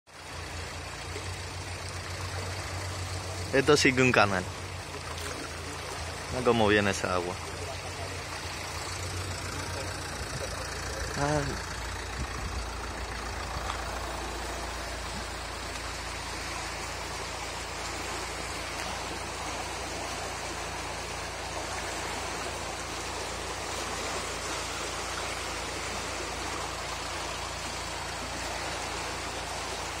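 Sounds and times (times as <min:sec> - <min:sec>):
water rushing turbulently: 0:00.1 - 0:30.0.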